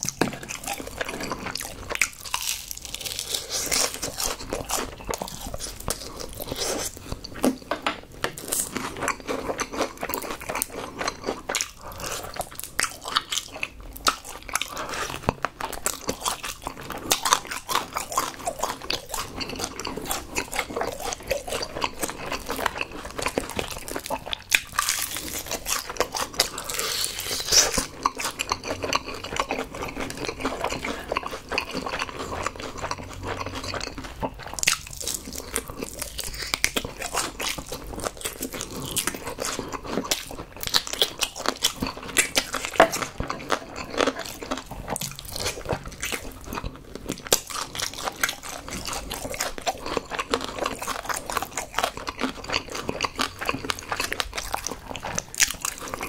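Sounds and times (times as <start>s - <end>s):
crunching fried chicken: 0.0s - 56.0s
wet chewing: 0.0s - 56.0s.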